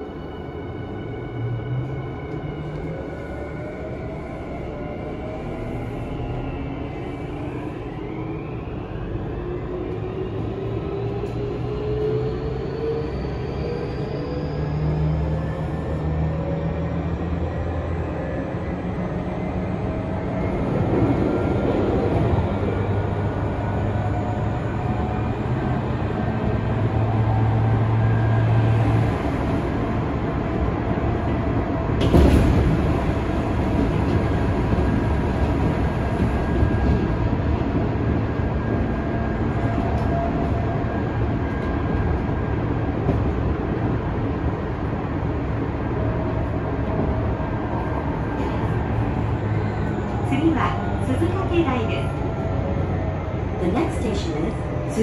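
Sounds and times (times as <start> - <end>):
train wheels rumbling on rail: 9.5 - 55.0.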